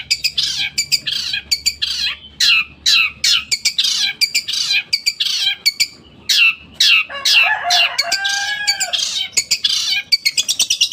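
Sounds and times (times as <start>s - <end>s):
bird harsh squawking song: 0.0s - 10.9s.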